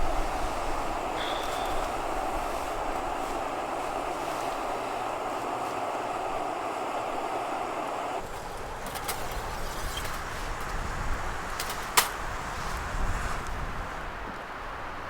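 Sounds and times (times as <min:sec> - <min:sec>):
wind buffeting rumble: 0:00.0 - 0:14.3.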